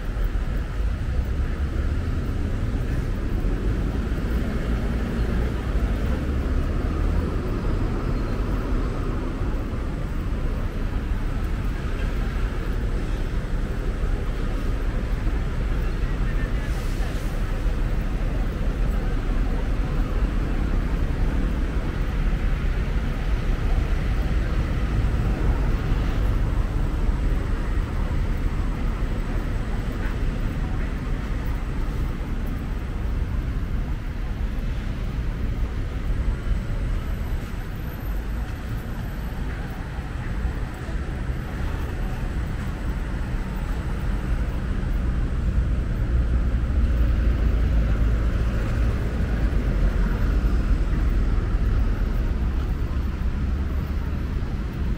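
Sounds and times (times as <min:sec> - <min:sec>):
low rumble of road traffic: 0:00.0 - 0:54.9.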